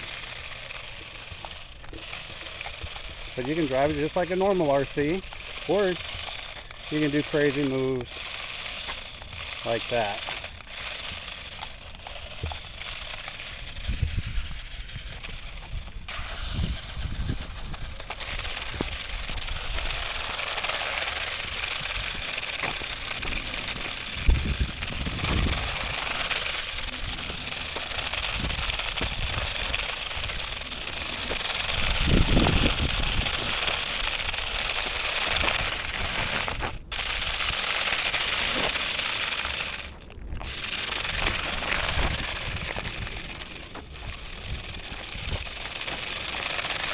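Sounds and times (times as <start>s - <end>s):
plastic wheels rattling: 0.0s - 46.9s
small electric motors whirring: 0.0s - 46.9s.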